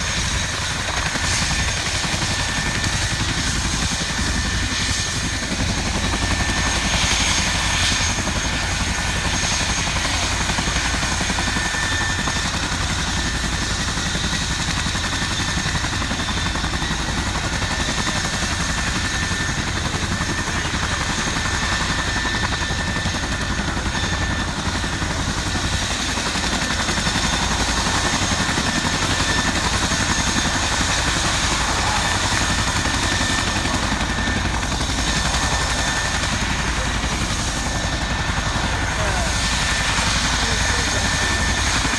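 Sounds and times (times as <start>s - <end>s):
helicopter rotors rumbling: 0.0s - 41.9s
high turbine whine: 0.0s - 41.9s.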